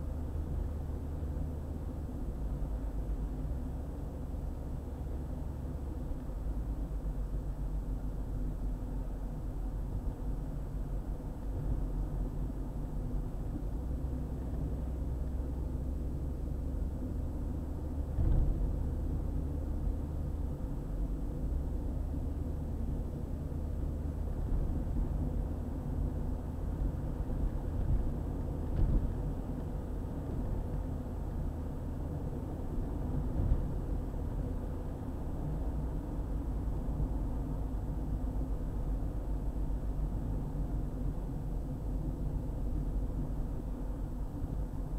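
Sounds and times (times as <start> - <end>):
road and engine rumble: 0.0 - 44.9.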